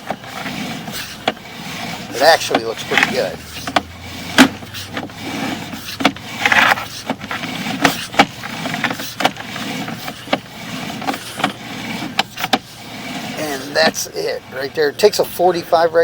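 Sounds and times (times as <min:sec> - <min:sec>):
cable scraping in sewer pipe: 0:00.0 - 0:16.0.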